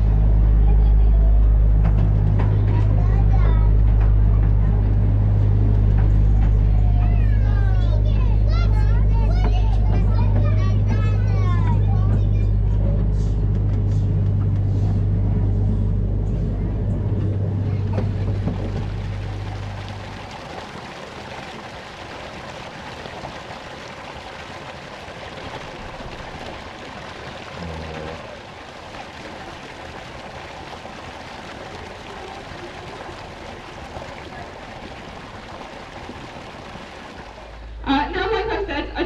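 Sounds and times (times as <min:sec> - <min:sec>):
water rushing and lapping: 0:00.0 - 0:39.0.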